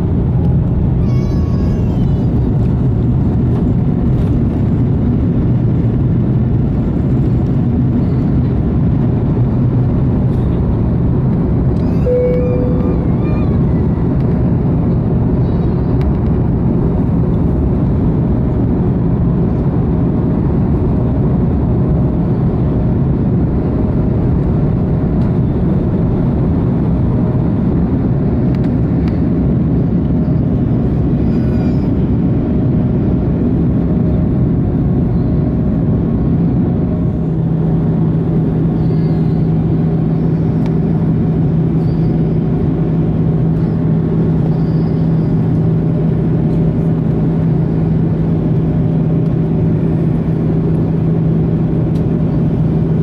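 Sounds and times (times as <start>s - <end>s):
airplane cabin engine drone: 0.0s - 53.0s
steady low hum: 0.0s - 53.0s.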